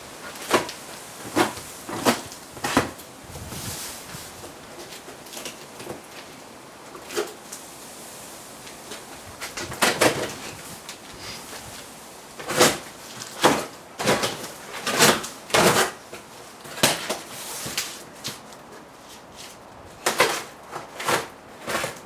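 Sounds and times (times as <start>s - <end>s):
scrapes and rustles of unpacking: 0.0s - 22.0s.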